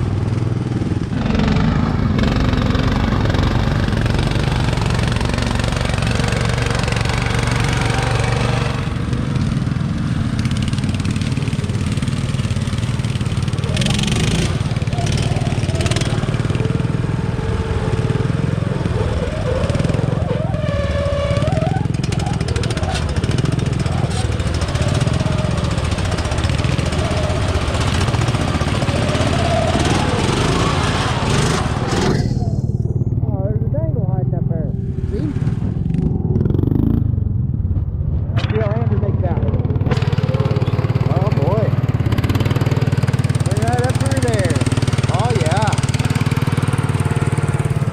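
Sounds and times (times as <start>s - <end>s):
off-road vehicle engine droning: 0.0s - 47.9s.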